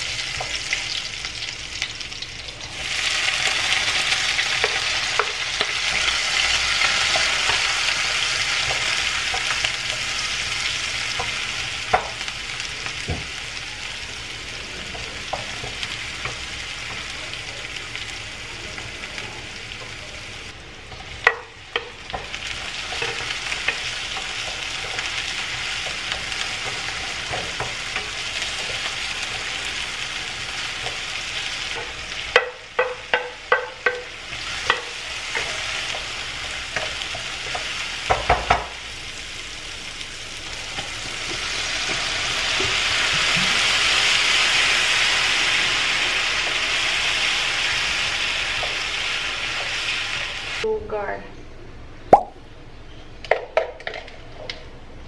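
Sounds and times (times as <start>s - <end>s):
food sizzling in a wok: 0.0s - 50.8s.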